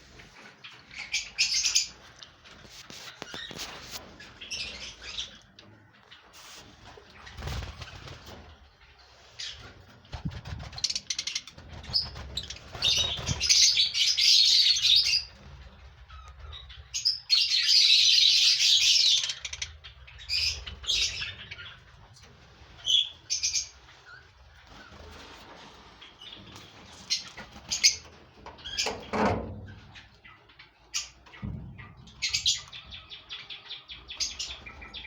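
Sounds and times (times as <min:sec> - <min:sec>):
lovebirds chattering and screeching: 0:00.6 - 0:02.2, 0:02.9 - 0:35.0.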